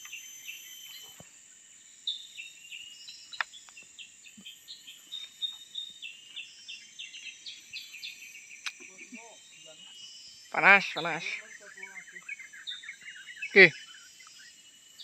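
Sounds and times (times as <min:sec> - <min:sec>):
bird whistling song: 0:00.0 - 0:01.2, 0:02.0 - 0:15.0
high insect drone: 0:00.0 - 0:15.0.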